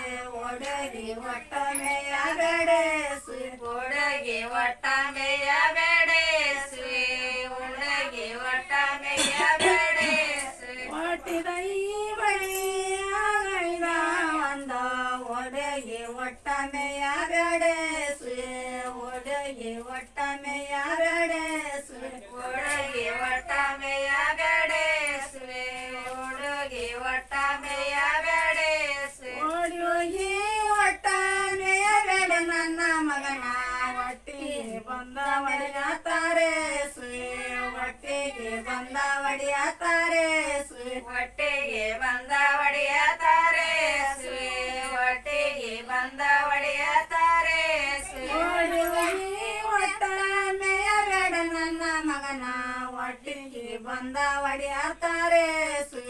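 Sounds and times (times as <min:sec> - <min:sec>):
women singing a folk song: 0:00.0 - 0:56.0.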